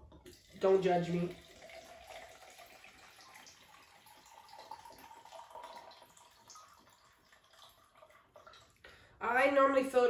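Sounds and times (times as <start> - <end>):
liquid pouring into a cup: 0.0 - 9.2.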